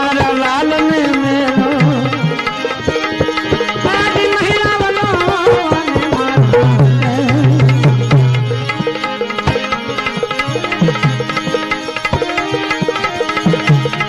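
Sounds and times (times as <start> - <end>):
tabla playing a steady rhythm: 0.0 - 14.0
wavering melody line: 0.0 - 14.0.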